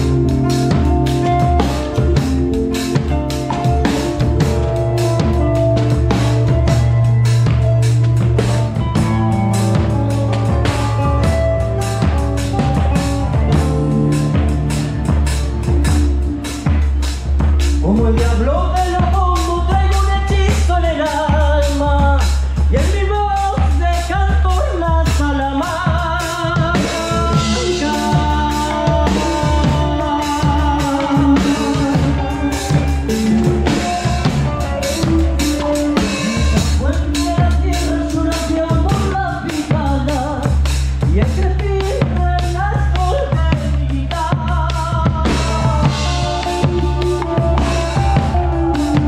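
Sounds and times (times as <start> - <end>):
sliding guitar lead melody: 0.0 - 22.0, 26.3 - 40.5, 44.9 - 49.0
electric guitars: 0.0 - 23.2, 25.1 - 49.0
drum kit beat: 0.0 - 49.0
folk-rock band playing: 0.0 - 49.0
person singing: 0.0 - 49.0.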